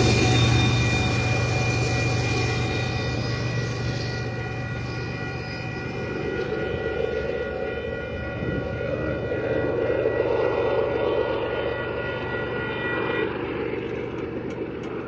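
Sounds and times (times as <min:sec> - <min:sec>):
low rumble of train: 0:00.0 - 0:15.0.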